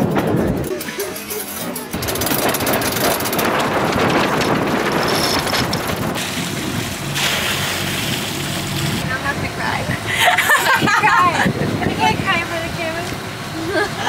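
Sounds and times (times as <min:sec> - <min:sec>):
water rushing along hull: 0:01.9 - 0:14.0
wind buffeting microphone: 0:02.0 - 0:14.0.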